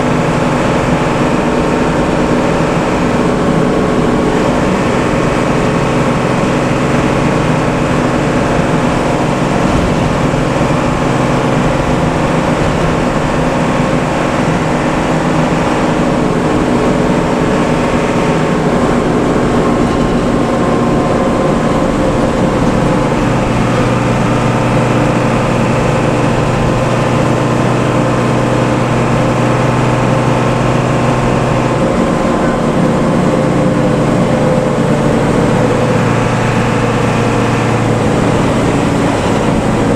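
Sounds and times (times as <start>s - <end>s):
deeper steady tone: 0.0s - 39.9s
diesel bus engine drone: 0.0s - 39.9s.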